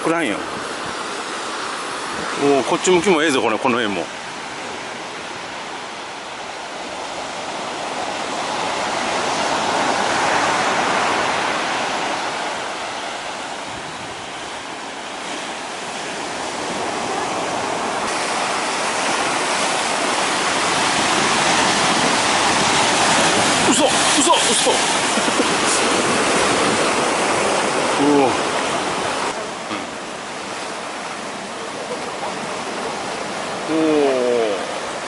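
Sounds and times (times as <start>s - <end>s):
ocean surf breaking on shore: 0.0s - 35.0s.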